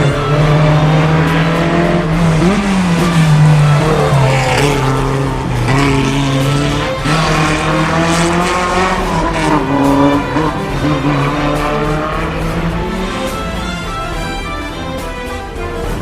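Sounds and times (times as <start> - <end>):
car engine running: 0.0 - 16.0
engine revving: 0.0 - 16.0.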